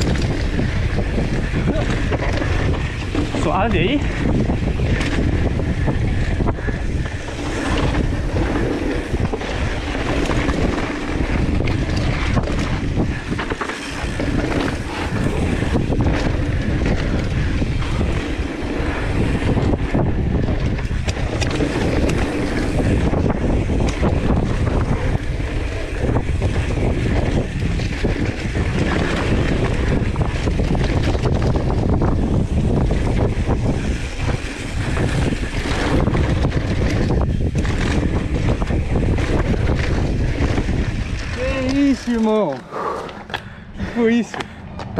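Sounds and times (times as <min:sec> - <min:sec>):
bike knocks and rattles: 0:00.0 - 0:42.6
tyres rumbling on dirt: 0:00.0 - 0:44.9
wind rushing over microphone: 0:00.0 - 0:44.9.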